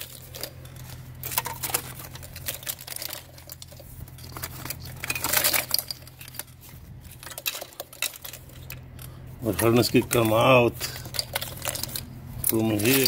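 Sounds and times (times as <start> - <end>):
plastic and wiring clicking and crinkling: 0.0 - 13.0
steady low hum: 0.0 - 13.0.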